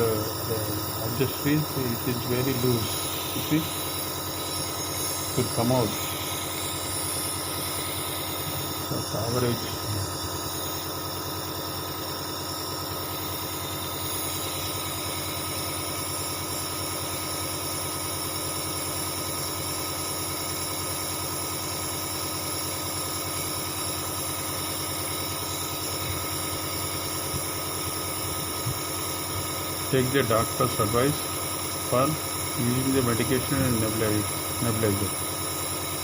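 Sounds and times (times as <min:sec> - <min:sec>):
compressor humming: 0:00.0 - 0:36.0.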